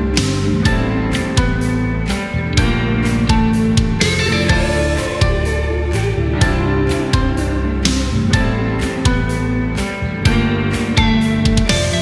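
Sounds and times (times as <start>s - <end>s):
bass line: 0.0s - 12.0s
plucked guitar notes: 0.0s - 12.0s.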